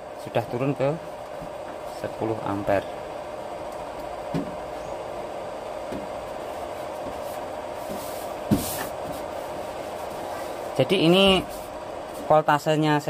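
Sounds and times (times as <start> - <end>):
charger cooling fan whining: 0.0 - 13.0.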